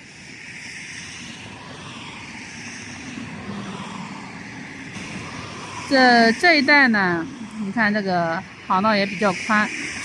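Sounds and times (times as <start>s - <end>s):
hiss: 0.0s - 10.0s
ship engine drone: 0.0s - 10.0s.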